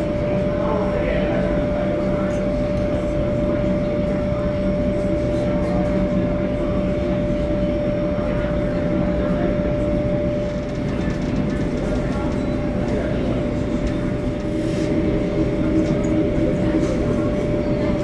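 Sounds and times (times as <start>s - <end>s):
airplane cabin rumble: 0.0s - 18.0s
mid-pitched hum: 0.0s - 18.0s.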